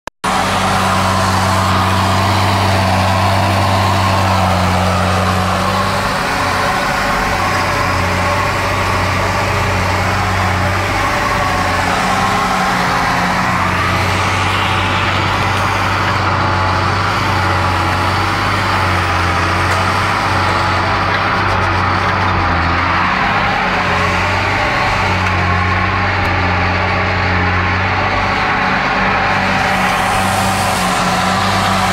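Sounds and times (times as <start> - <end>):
tractor diesel engine under load: 0.2 - 31.9.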